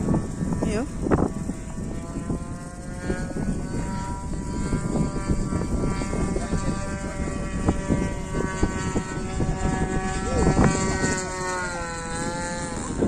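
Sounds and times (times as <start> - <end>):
model plane engine buzzing: 0.0 - 13.0
wind rumbling on microphone: 0.0 - 13.0.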